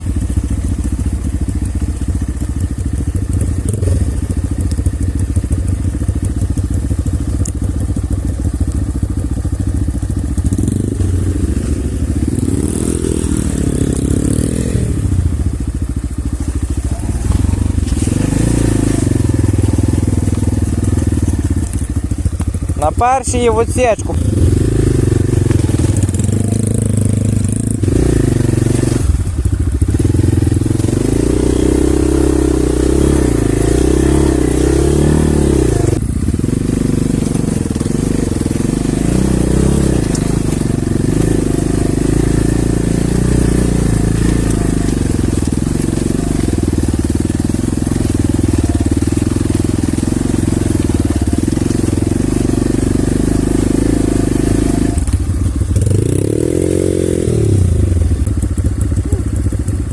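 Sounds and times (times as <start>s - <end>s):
off-road motorcycle engine running hard: 0.0s - 59.9s.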